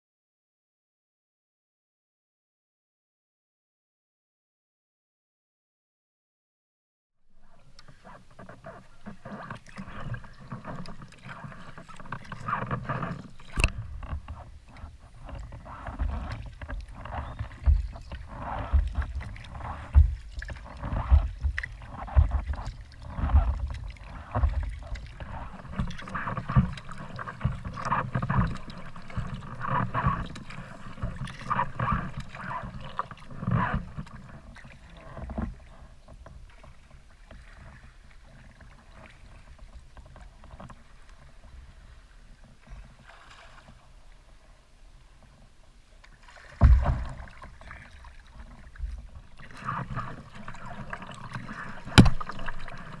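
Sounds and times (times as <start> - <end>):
paddle blades splashing: 7.3 - 53.0
water sloshing against hull: 7.3 - 53.0.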